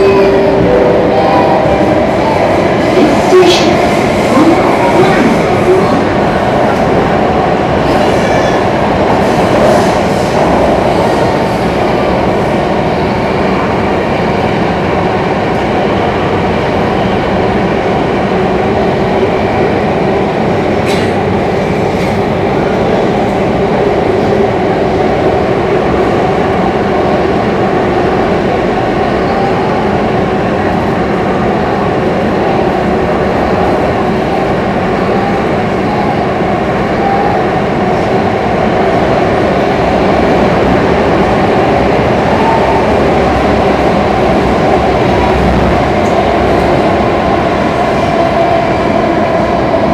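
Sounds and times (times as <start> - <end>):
train running in tunnel: 0.0 - 49.9.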